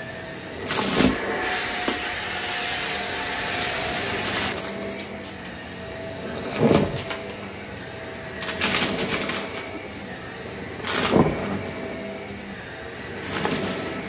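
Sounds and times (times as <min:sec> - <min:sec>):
vacuum cleaner motor hum: 0:00.0 - 0:14.0
debris rattling up vacuum nozzle: 0:00.2 - 0:14.0.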